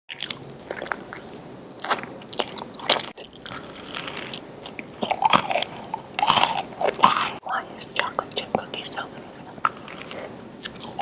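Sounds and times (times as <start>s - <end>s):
person chewing crisp food: 0.1s - 11.0s.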